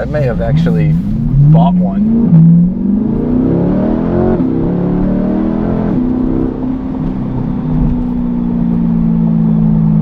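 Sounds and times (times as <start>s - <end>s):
car engine revving with upshifts: 0.0s - 10.0s.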